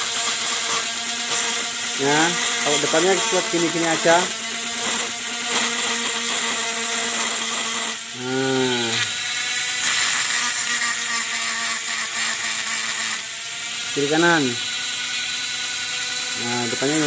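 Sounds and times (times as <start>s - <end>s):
rotary tool grinding plastic: 0.0s - 17.0s.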